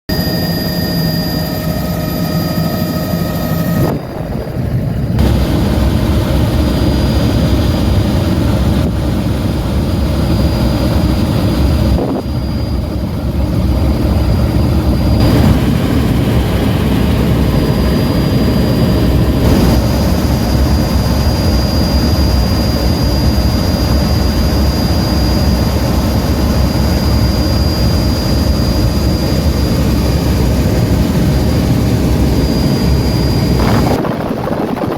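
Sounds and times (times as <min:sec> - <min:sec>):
helicopter rotor and engine drone: 0:00.1 - 0:34.9
high steady whine: 0:00.1 - 0:34.9.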